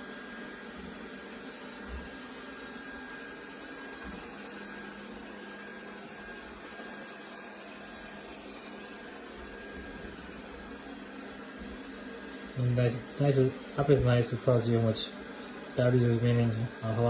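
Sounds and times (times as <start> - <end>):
robot vacuum humming with whine: 0.0 - 17.0.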